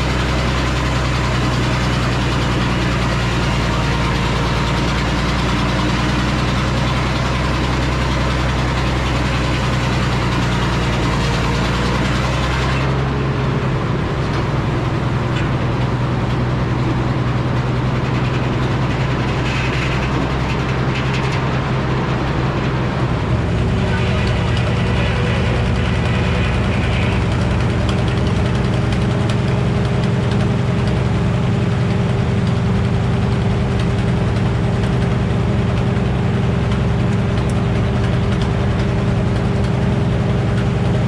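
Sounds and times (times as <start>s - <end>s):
sawmill engine droning: 0.0s - 41.0s.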